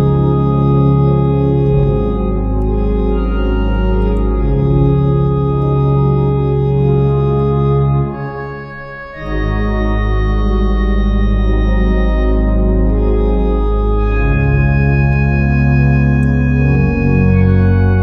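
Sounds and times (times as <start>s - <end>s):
pipe organ playing hymn chords: 0.0s - 18.0s.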